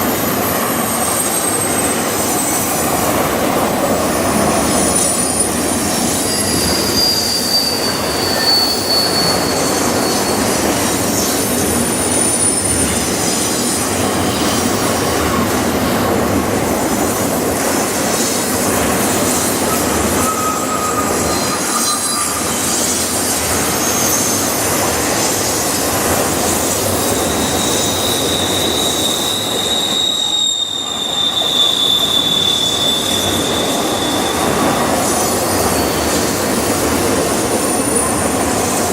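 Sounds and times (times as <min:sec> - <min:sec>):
high wheel squeals: 0:00.0 - 0:03.4, 0:04.3 - 0:15.4, 0:19.2 - 0:25.7, 0:26.6 - 0:38.9
train wheels rumbling on rails: 0:00.0 - 0:38.9.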